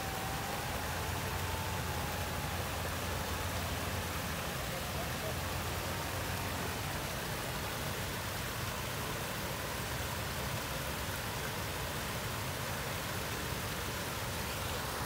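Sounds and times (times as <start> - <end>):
waterfall splashing over rocks: 0.0 - 15.0.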